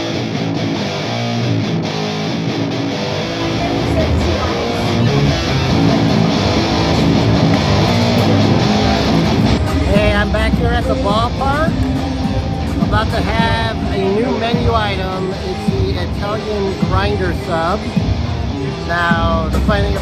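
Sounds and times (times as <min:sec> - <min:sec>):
guitar background music: 0:00.0 - 0:20.0.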